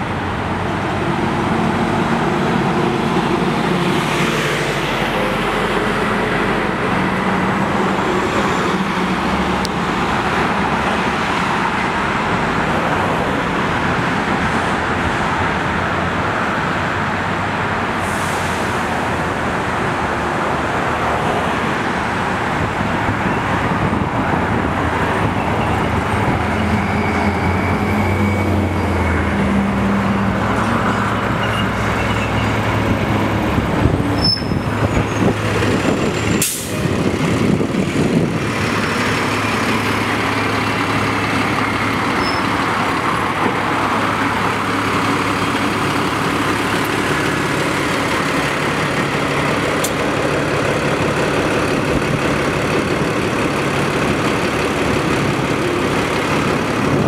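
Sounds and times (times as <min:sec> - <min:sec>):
bus engine hum: 0:00.0 - 0:57.0
street traffic: 0:00.0 - 0:57.0.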